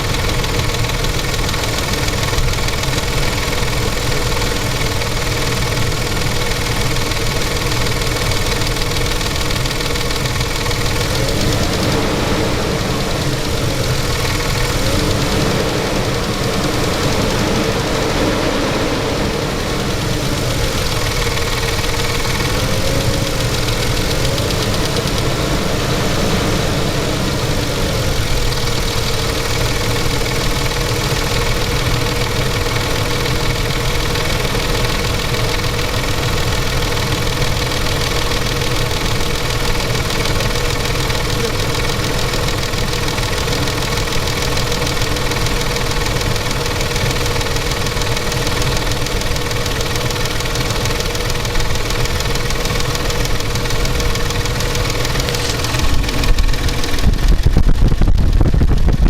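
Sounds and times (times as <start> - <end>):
engine idling with knock: 0.0 - 59.0
steady whine: 0.0 - 59.0.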